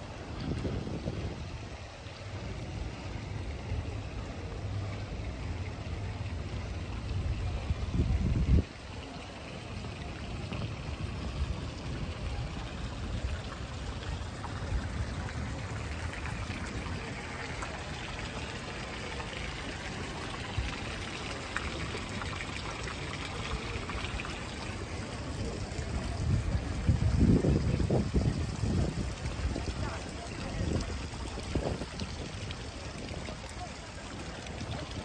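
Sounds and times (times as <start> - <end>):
fountain water splashing: 0.0 - 35.0.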